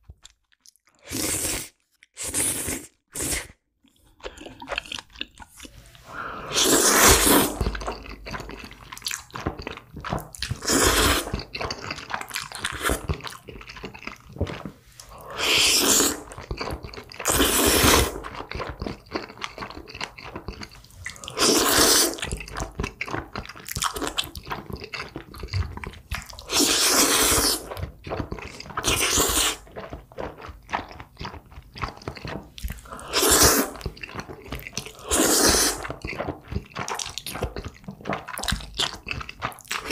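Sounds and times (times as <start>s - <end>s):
squelching chewing: 0.0s - 39.9s
wet noodle slurps: 1.0s - 3.6s, 4.3s - 39.9s.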